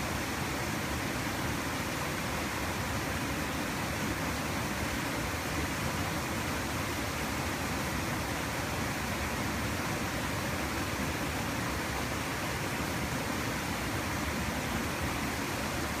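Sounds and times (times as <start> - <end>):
small stream flowing: 0.0 - 16.0.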